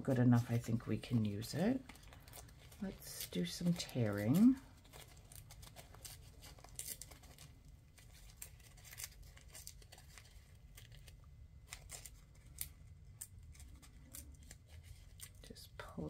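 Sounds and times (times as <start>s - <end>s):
paper tearing: 1.2s - 15.6s.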